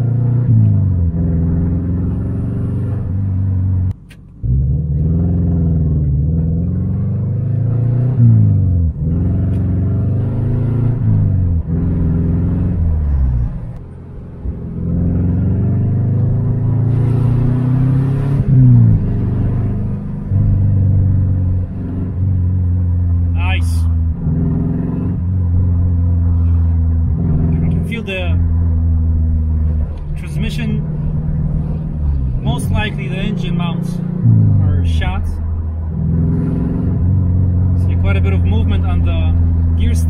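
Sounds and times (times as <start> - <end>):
car engine accelerating through gears: 0.0 - 40.0.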